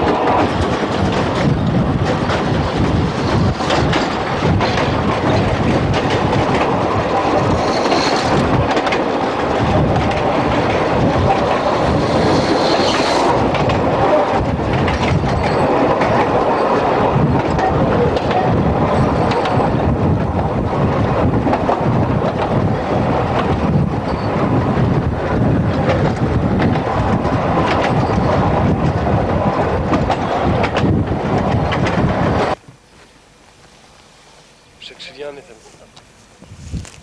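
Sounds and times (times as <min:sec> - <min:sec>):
wheels clattering over rail joints: 0:00.0 - 0:20.4, 0:21.3 - 0:32.6
train carriages rumbling: 0:00.0 - 0:32.6.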